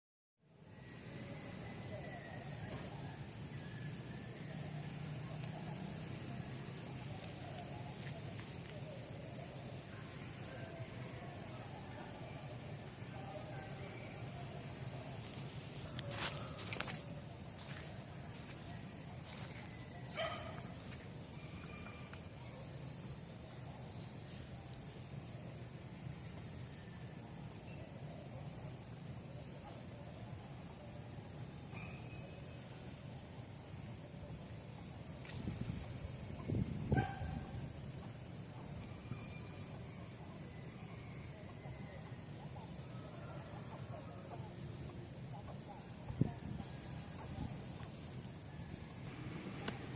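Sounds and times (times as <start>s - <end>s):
insects droning: 0.4s - 49.9s.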